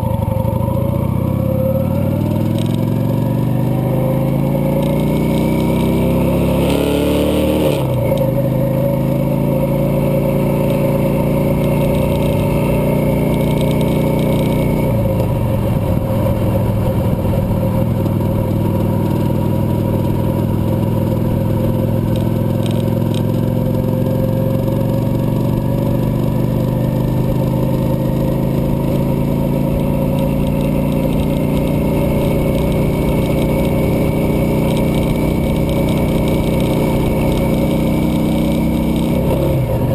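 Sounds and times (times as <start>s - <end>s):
cruiser motorcycle engine running: 0.0s - 39.9s.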